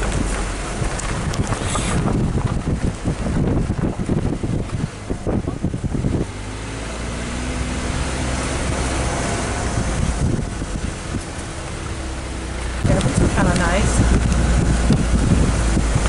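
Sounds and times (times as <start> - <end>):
car engine and tyres hum: 0.0 - 16.0
wind buffeting microphone: 0.0 - 16.0.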